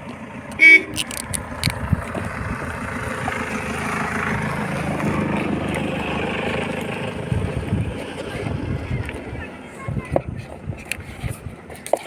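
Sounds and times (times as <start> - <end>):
motor vehicle engines running: 0.0 - 12.0
road noise: 0.0 - 12.0.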